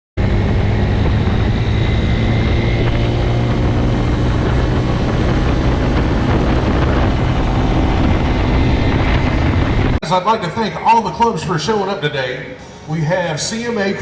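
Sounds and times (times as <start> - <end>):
engines droning: 0.2 - 14.0.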